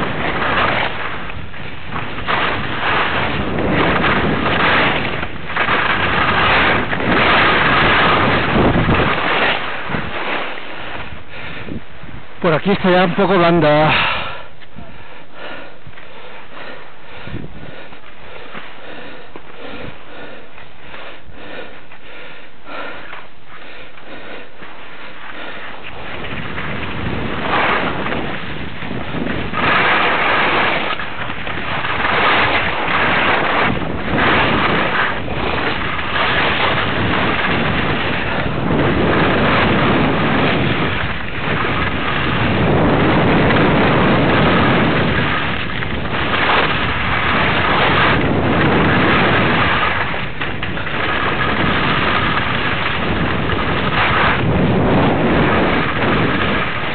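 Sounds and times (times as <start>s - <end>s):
wind rushing over microphone: 0.0s - 21.8s, 22.7s - 56.9s
skis scraping over snow: 0.0s - 56.9s.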